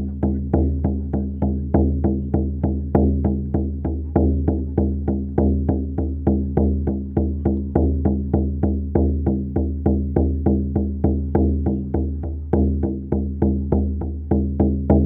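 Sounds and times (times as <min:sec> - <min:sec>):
frame drum beating: 0:00.0 - 0:15.0.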